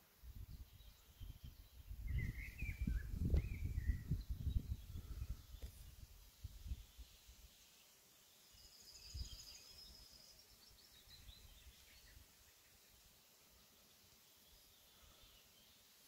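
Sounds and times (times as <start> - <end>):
faint bird chirping trills: 0.0 - 16.0.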